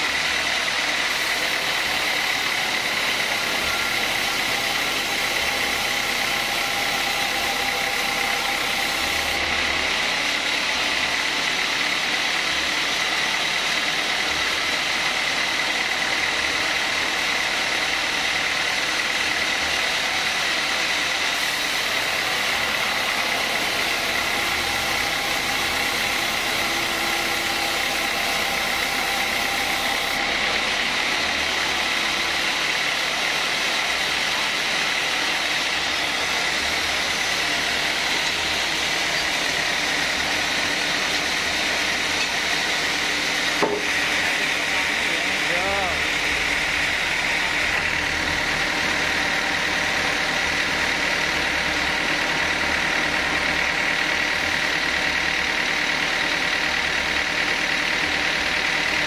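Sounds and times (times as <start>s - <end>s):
band saw cutting through log: 0.0s - 59.0s.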